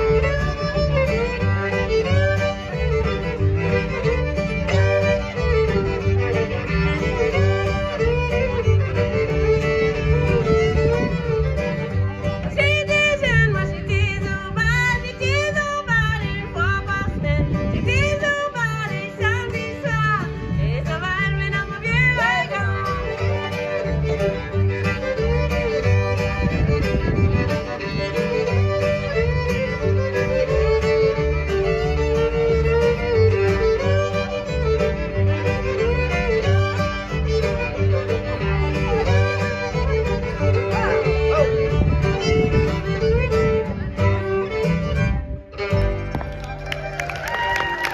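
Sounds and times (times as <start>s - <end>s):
acoustic guitar: 0.0s - 47.9s
fiddles playing melody: 0.0s - 47.9s
upright bass: 0.0s - 47.9s.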